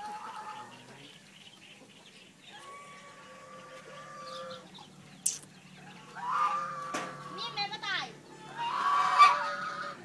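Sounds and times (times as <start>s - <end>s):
poultry calling: 0.0s - 10.0s.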